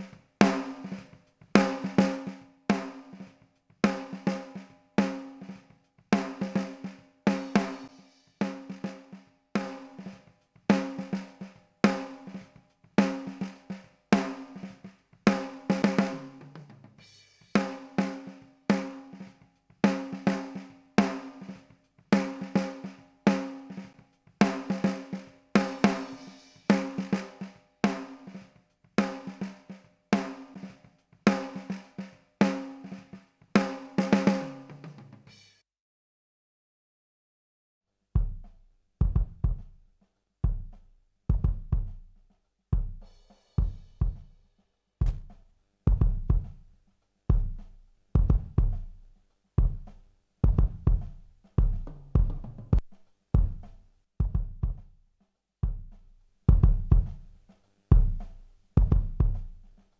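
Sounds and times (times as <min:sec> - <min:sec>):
drum kit groove: 0:00.0 - 0:35.6, 0:38.2 - 0:59.9.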